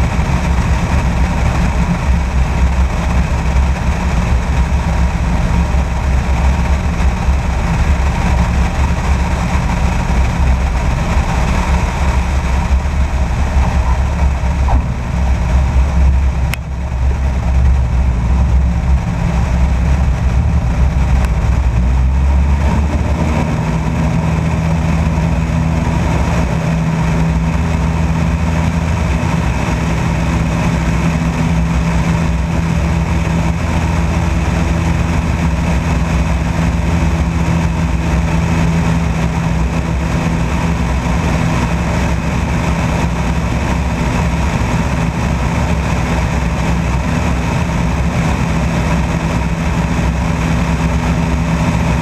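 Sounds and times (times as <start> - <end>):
propeller plane engine running: 0.0 - 52.0.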